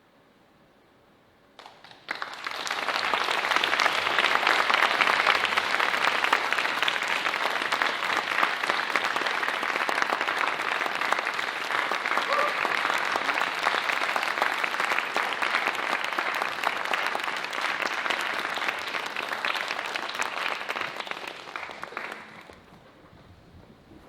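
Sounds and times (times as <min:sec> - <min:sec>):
audience applause: 0:01.6 - 0:23.0.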